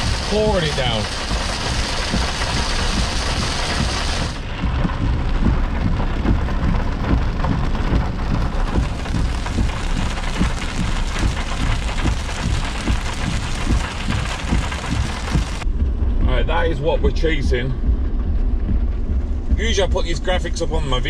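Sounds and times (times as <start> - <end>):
heavy rain on car roof: 0.0 - 15.7, 18.6 - 21.0
deep rumble: 0.0 - 21.0.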